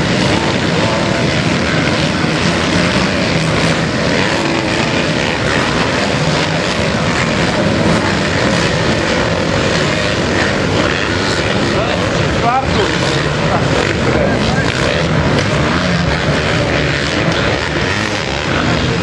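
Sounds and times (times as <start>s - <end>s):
motocross bike engines droning: 0.0s - 19.0s.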